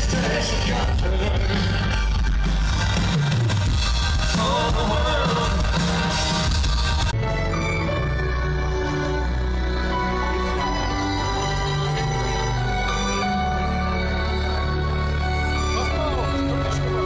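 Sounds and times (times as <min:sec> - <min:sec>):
live band with singer: 0:00.0 - 0:17.0.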